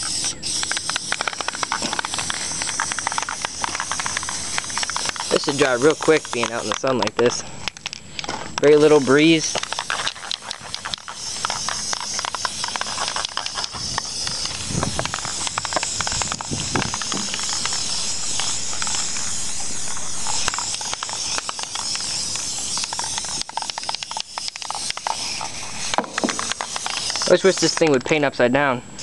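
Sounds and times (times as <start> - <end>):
aerosol spray can hissing: 0.0 - 7.4, 8.6 - 28.0.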